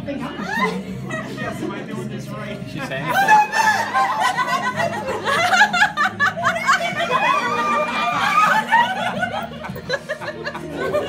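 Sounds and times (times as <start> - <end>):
people laughing and exclaiming: 0.0 - 11.0.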